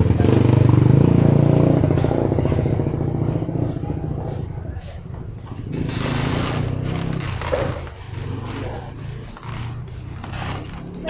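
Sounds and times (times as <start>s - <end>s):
faint voices: 0.0s - 11.0s
steady engine hum: 0.0s - 11.0s.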